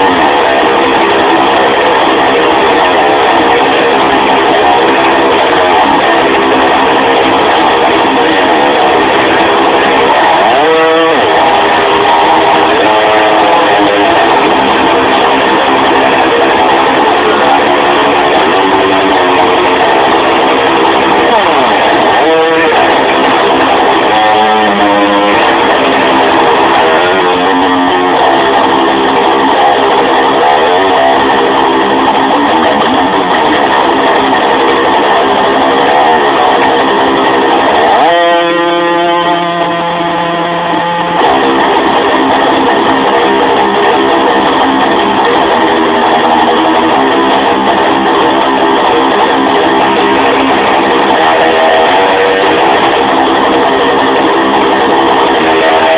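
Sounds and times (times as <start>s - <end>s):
bass: 0.0s - 55.9s
electric guitar strumming chords: 0.0s - 55.9s.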